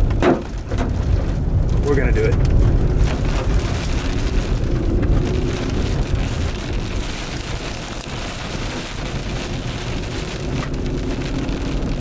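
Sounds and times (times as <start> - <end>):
rain beating on vehicle: 0.0 - 12.0
raindrops hitting: 0.0 - 12.0
strong wind rushing: 0.8 - 12.0.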